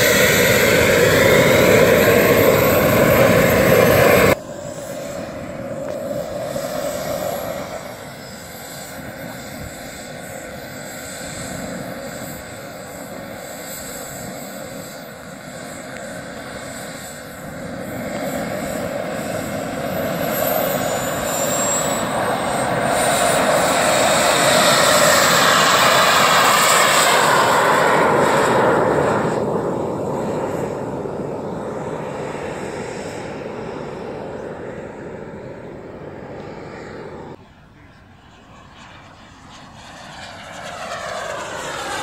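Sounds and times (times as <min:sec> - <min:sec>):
model jet engine whine: 0:00.0 - 0:42.0.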